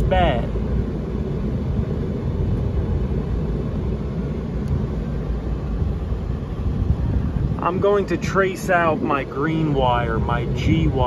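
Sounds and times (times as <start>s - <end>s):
rooftop unit blower rumbling: 0.0s - 11.0s.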